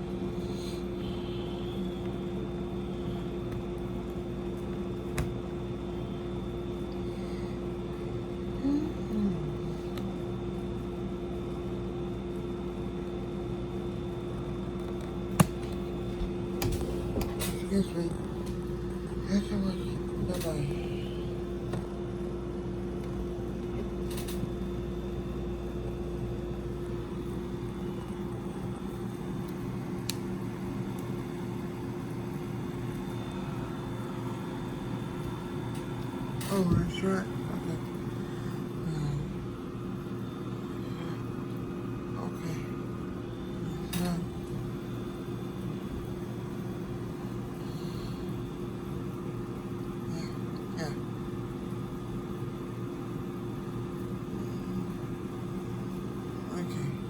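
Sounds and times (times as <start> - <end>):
air conditioner humming: 0.0 - 57.0.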